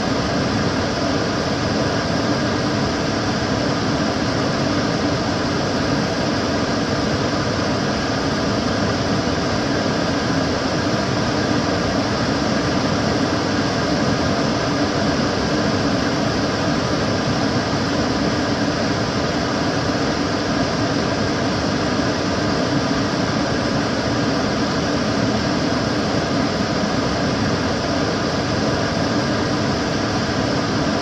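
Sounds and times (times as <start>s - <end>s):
extractor fan running: 0.0s - 31.0s.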